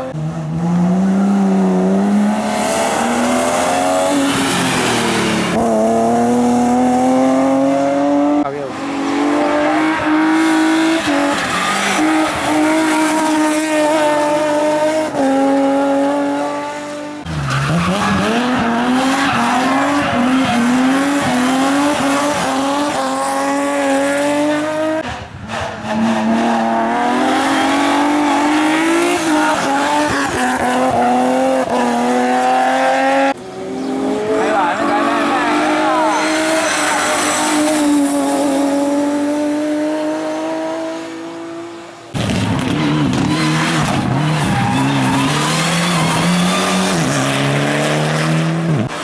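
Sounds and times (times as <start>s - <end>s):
racing car engine at full throttle: 0.0s - 49.0s.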